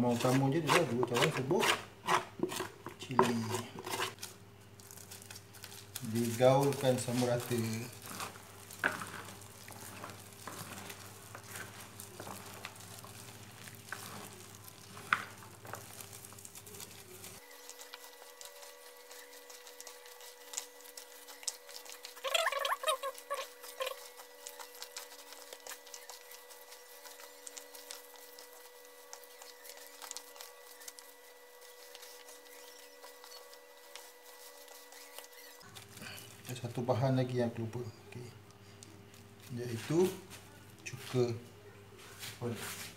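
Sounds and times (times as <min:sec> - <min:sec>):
wet squishing of vegetables: 0:04.8 - 0:41.2.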